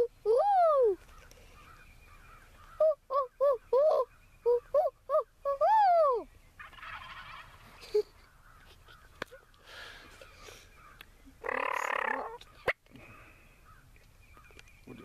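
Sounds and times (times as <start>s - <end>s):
wild turkey yelping: 0.7s - 12.8s.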